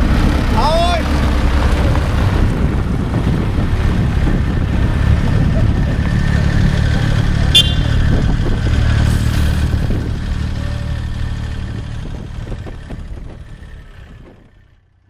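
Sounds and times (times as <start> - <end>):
fire truck engine pulling away: 0.0 - 15.0.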